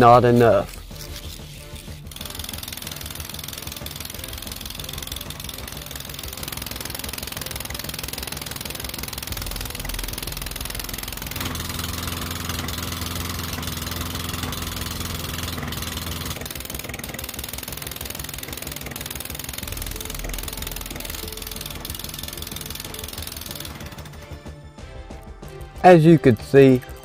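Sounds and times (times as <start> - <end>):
lawn mower engine running: 0.0 - 27.0.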